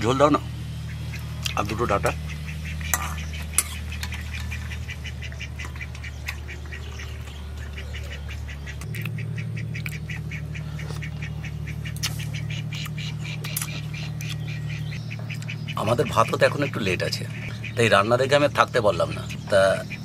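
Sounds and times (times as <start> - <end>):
ducks quacking: 0.0 - 20.0
low hum: 0.0 - 20.0.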